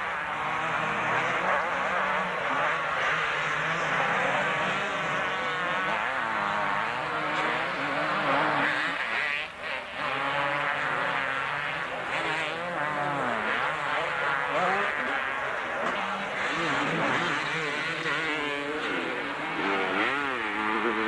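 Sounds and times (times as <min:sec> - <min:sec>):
motocross bikes revving: 0:00.0 - 0:21.0.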